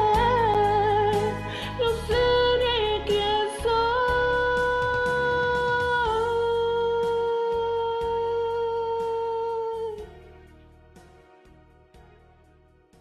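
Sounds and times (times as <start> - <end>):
woman singing a slow ballad: 0.0 - 10.4
instrumental accompaniment: 0.0 - 13.0.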